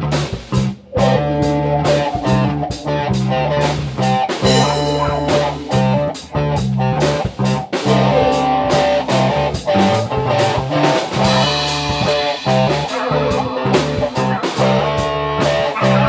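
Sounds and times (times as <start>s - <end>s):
bass guitar: 0.0s - 16.0s
drum kit beat: 0.0s - 16.0s
electric guitars playing riff: 0.0s - 16.0s.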